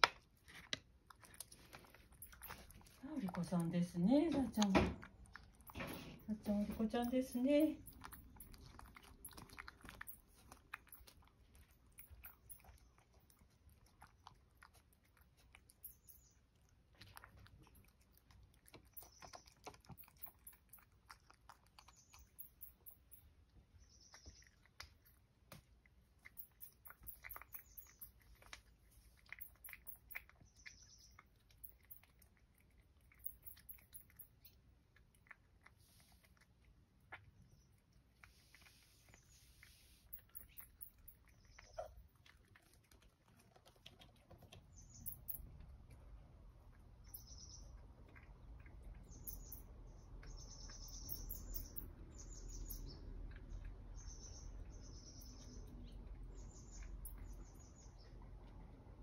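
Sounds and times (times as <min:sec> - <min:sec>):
cat chewing and licking: 0:00.0 - 0:59.0.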